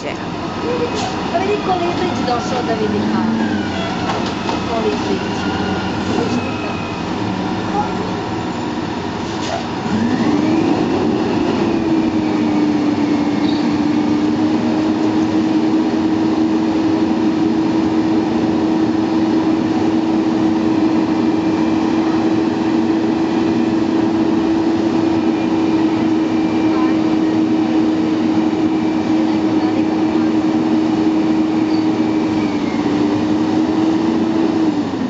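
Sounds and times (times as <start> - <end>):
garbage truck engine drone: 0.0 - 35.0.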